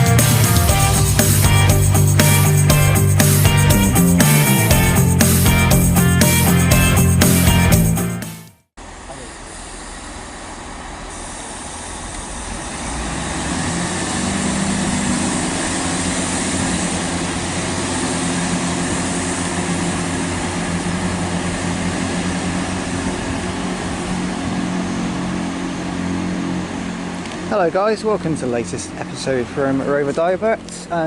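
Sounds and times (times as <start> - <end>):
train diesel engines humming: 0.0 - 7.6, 8.8 - 31.0.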